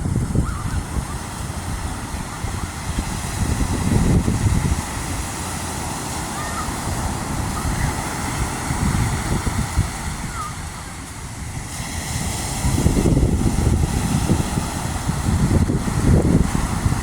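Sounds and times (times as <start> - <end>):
ocean surf on a beach: 0.0 - 17.0
wind buffeting microphone: 0.0 - 17.0.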